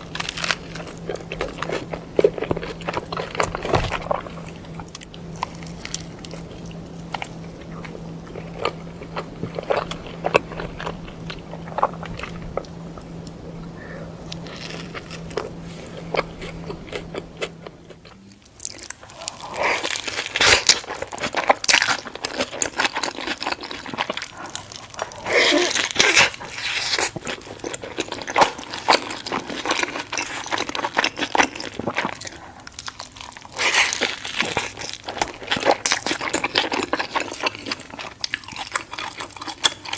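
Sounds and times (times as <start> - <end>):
biting and chewing burger: 0.0 - 39.9
low steady hum: 0.0 - 39.9.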